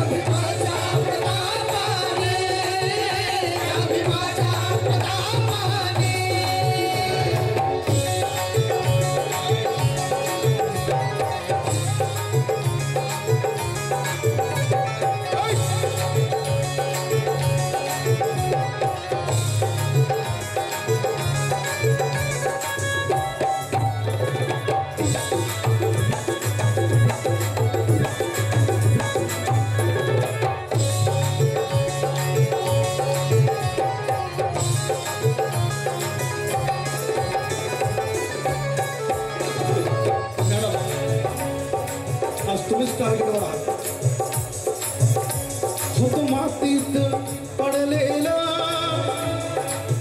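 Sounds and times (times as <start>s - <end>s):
hand drums rhythm: 0.0s - 50.0s
melodic instrument playing tune: 0.0s - 50.0s.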